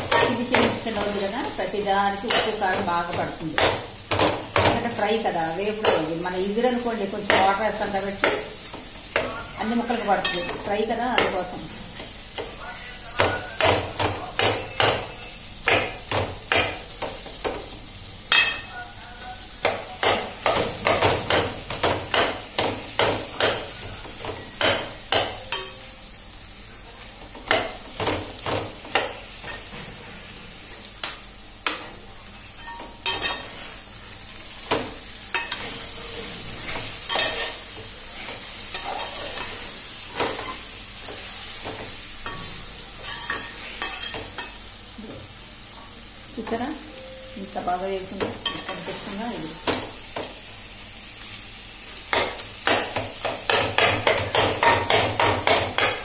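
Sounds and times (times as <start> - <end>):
food sizzling in pot: 0.0 - 56.0.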